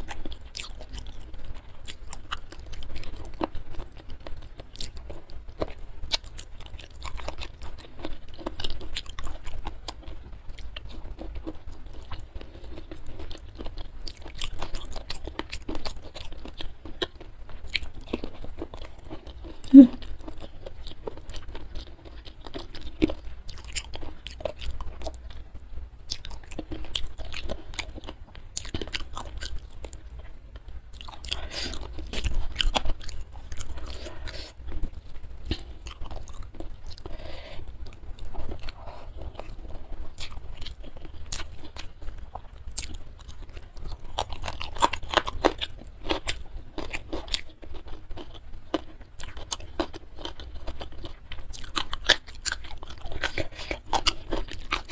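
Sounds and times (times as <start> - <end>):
chewing and crunching: 0.0 - 54.9.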